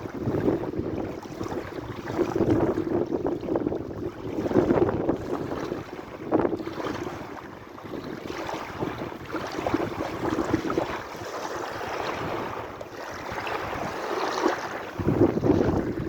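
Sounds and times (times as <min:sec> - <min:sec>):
sea waves splashing: 0:00.0 - 0:16.0.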